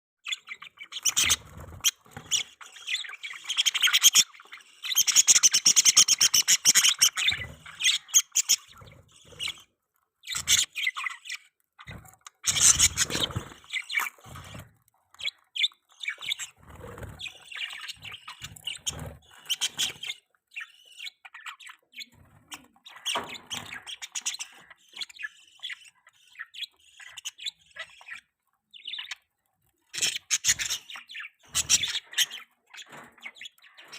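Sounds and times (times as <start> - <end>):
budgerigars chattering and chirping: 0.2 - 33.9.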